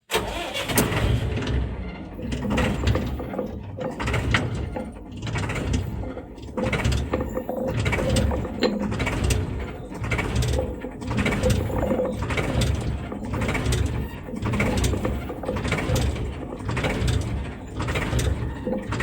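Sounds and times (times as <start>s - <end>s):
gears rattling clicks: 2.2s - 19.0s.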